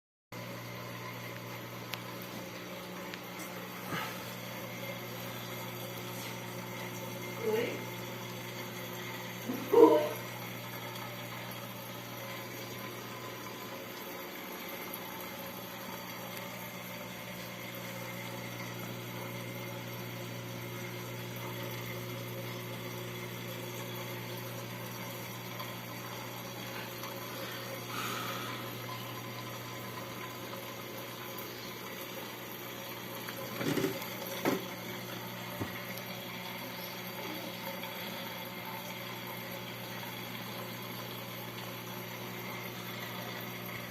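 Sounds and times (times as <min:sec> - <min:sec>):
aquarium pump humming: 0:00.4 - 0:43.9
moving water: 0:00.4 - 0:43.9.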